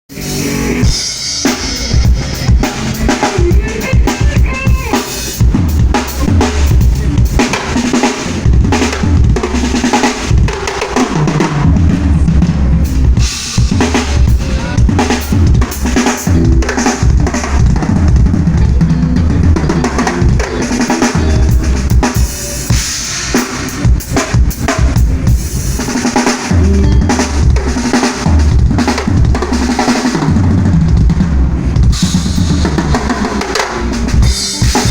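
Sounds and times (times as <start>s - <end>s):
drum kit groove with fills: 0.1s - 34.9s.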